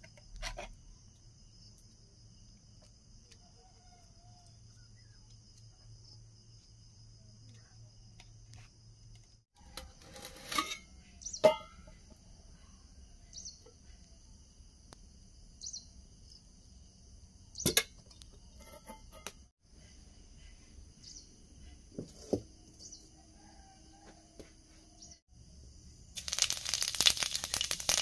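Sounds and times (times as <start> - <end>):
crickets chirring: 0.0 - 28.0.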